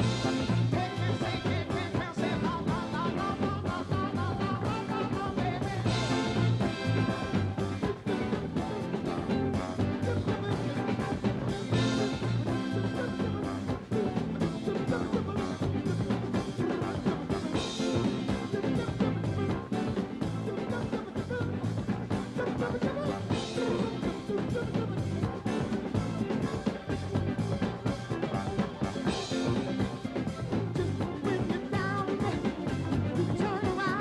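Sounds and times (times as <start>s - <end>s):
brass section: 0.0s - 34.0s
drum kit dance beat: 0.0s - 34.0s
soul band playing: 0.0s - 34.0s.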